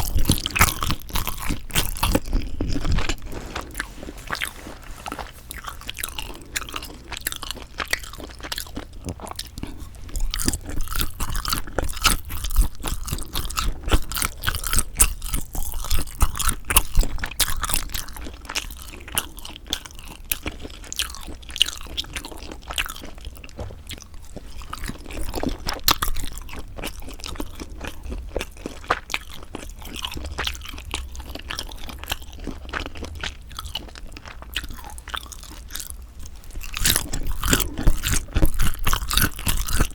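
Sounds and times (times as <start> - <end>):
close-miked chewing and biting: 0.0 - 39.9.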